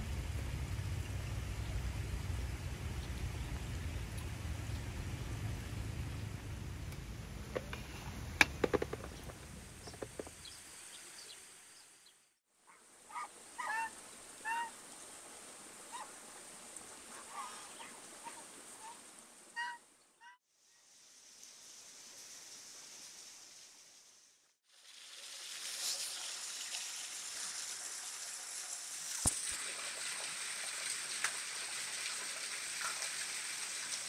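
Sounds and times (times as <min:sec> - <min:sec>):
steady hiss like rain: 0:00.0 - 0:34.0.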